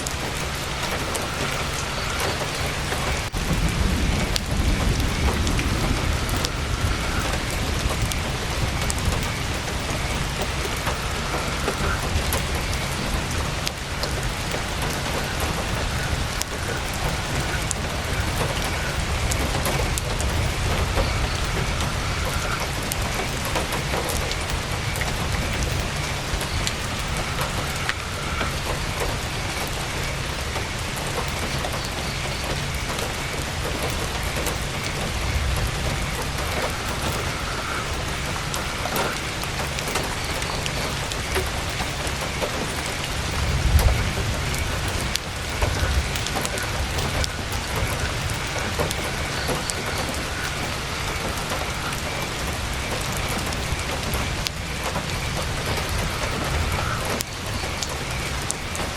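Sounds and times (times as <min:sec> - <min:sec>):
heavy rain on tent canvas: 0:00.0 - 0:58.9.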